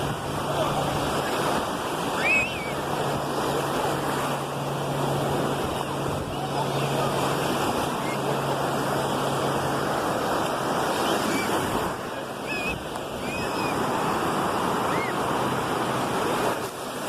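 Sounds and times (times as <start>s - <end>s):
ocean surf washing on beach: 0.0s - 17.0s.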